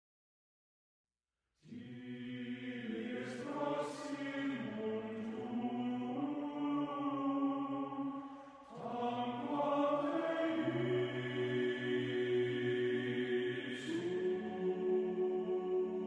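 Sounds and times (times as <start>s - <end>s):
slow chant-like vocal song: 1.6s - 16.0s.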